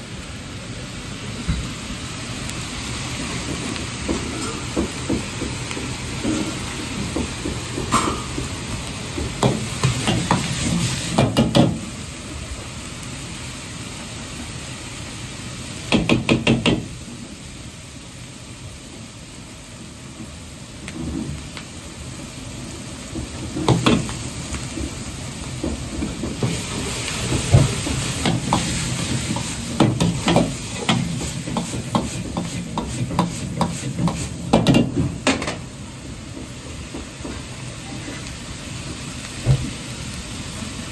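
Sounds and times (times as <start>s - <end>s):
gas burner roaring: 0.0s - 40.9s
meat sizzling in a wok: 0.0s - 40.9s.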